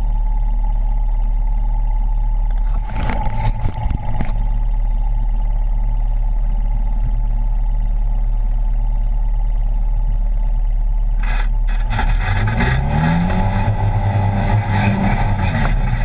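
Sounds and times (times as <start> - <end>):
engine droning with whine: 0.0 - 16.0.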